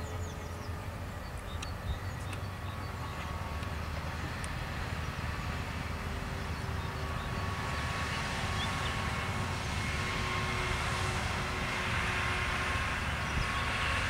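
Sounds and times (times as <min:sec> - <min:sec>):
diesel truck engine rumble: 0:00.0 - 0:14.0.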